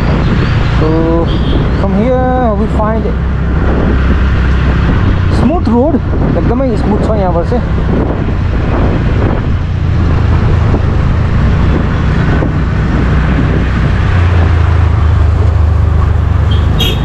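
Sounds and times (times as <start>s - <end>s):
motorcycle engine: 0.0s - 17.0s
road rumble: 0.0s - 17.0s
wind rushing over microphone: 0.0s - 17.0s.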